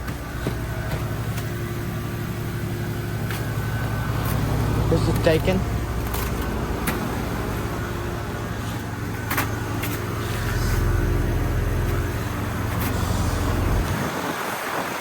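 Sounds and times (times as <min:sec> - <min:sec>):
fan noise: 0:00.0 - 0:15.0
heat pump compressor hum: 0:00.0 - 0:15.0.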